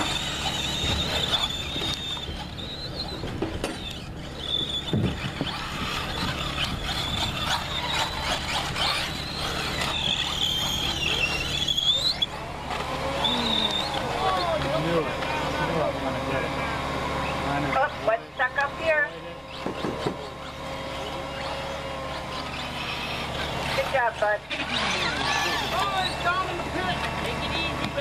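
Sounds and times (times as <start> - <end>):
high-pitched motor whine: 0.0 - 28.0.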